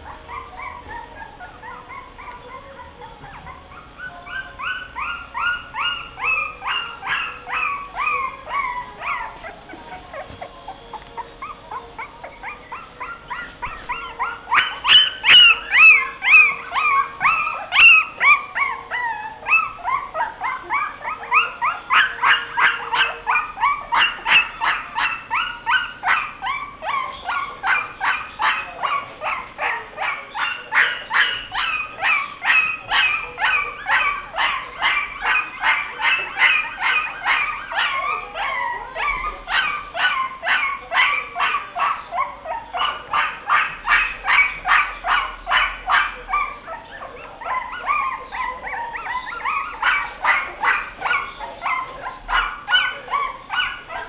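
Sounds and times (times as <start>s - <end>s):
puppies yelping and whimpering: 0.0s - 54.0s.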